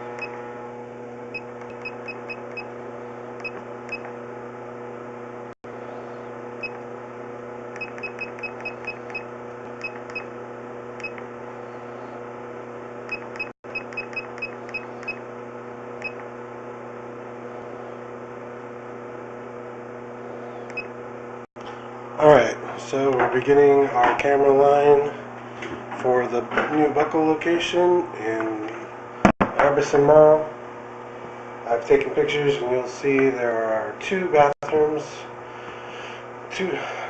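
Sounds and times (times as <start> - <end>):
electrical hum: 0.0 - 37.0.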